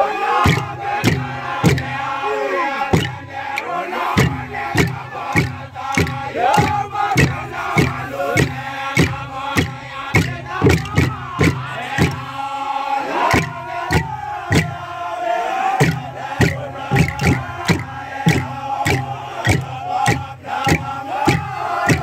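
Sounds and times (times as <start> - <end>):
men chanting together: 0.0 - 22.0
struck percussion beat: 0.4 - 12.6, 13.2 - 22.0.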